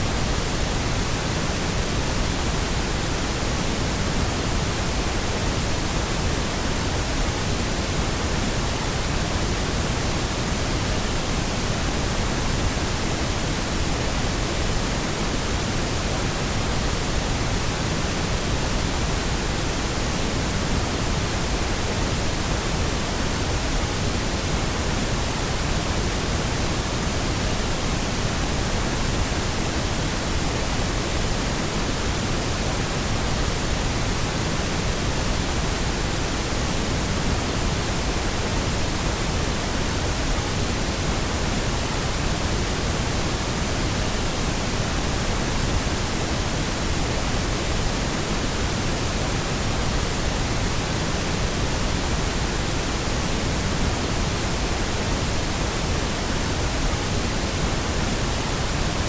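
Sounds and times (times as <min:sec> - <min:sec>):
steady pink noise: 0:00.0 - 0:59.0.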